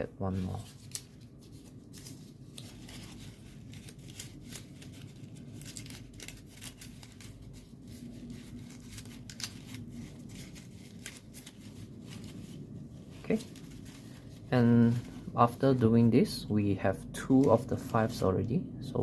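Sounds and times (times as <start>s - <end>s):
paper rustling and scraping: 0.3s - 15.8s.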